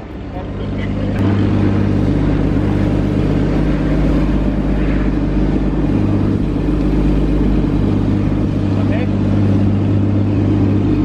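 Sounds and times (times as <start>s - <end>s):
race car engine idling: 0.0s - 11.0s.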